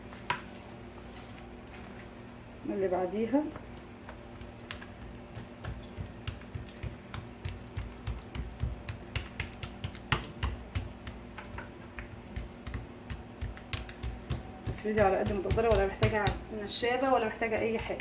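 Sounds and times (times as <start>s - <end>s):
hands patting dough: 3.6s - 18.0s.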